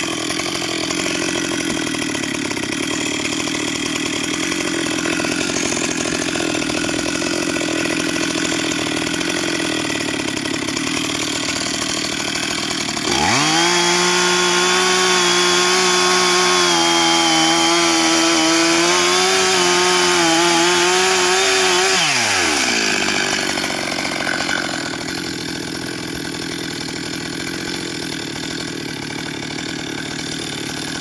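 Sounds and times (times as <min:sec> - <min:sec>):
chainsaw idling roughly: 0:00.0 - 0:31.0
chainsaw running at high revs: 0:00.0 - 0:31.0.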